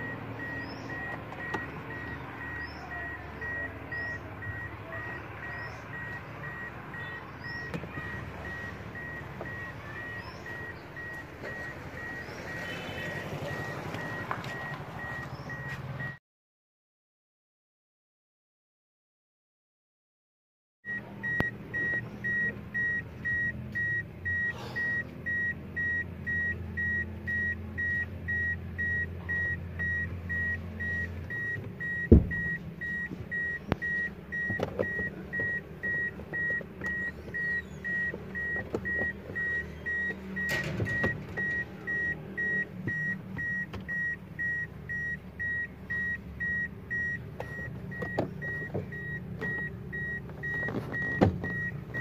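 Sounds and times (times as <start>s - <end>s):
car warning chime beeping: 0.0s - 16.2s, 20.9s - 52.0s.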